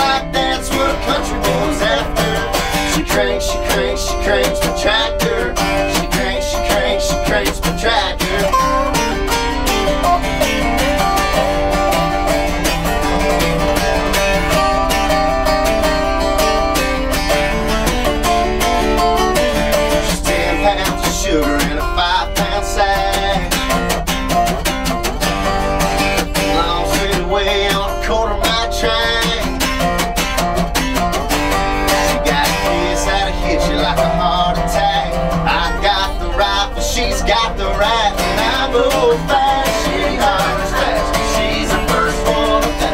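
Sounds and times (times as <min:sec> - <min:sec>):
acoustic guitar strumming: 0:00.0 - 0:42.9
resonator guitar lead melody: 0:00.0 - 0:42.9.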